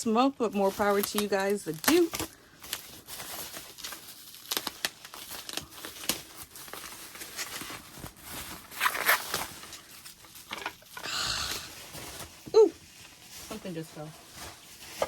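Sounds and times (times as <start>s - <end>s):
wrapping crinkling: 0.0s - 15.0s.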